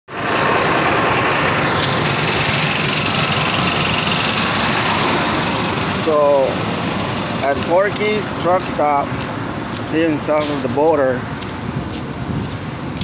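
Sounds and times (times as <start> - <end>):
diesel truck engine idling: 0.1 - 13.0.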